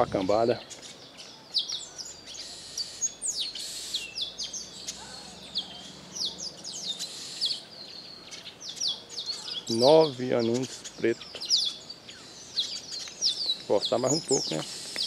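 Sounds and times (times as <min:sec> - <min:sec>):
birds chirping: 0:00.0 - 0:15.0
faint outdoor background noise: 0:00.0 - 0:15.0.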